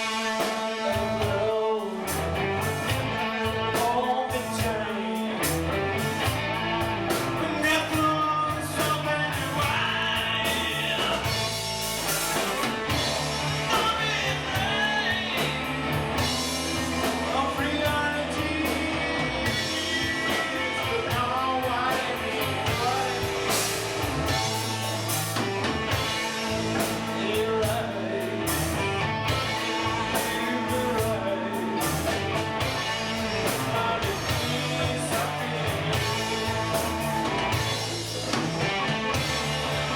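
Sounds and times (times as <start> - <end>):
person singing: 0.0 - 5.6, 7.1 - 11.5, 12.9 - 39.3
bass guitar: 0.0 - 39.9
drum kit: 0.0 - 39.9
electric guitars: 0.0 - 39.9.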